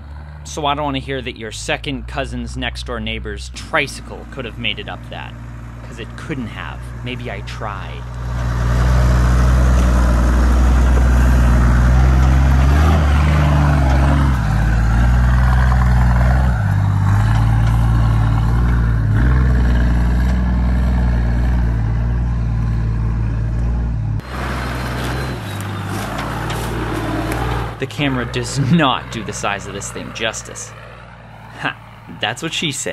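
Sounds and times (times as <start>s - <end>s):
diesel engine labouring uphill: 0.0s - 32.9s.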